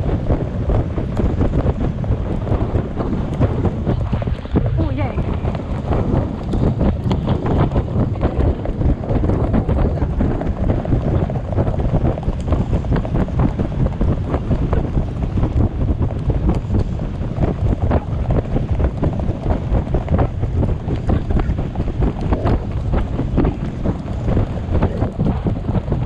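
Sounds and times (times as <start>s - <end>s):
horse hooves and tack clicking: 0.0s - 26.0s
wind buffeting microphone: 0.0s - 26.0s.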